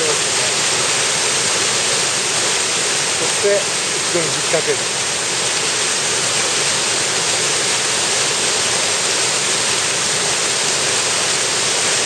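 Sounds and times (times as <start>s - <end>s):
stream rushing over boulders: 0.0s - 12.0s.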